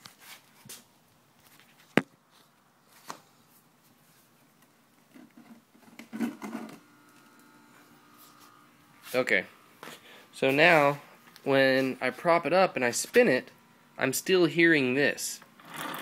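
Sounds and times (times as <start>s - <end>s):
faint steady hum: 0.4s - 16.0s.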